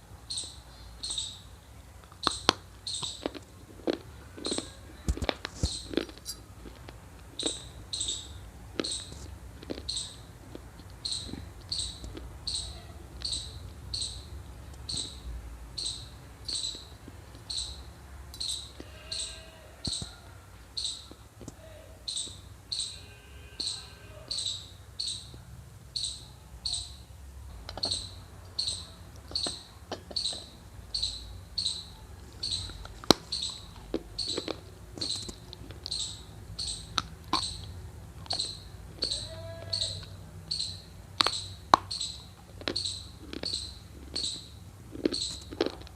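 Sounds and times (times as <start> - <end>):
crunchy chewing of dry clay: 0.3 - 23.0, 27.5 - 45.9
sharp crunching snaps: 0.3 - 23.0, 27.5 - 45.9.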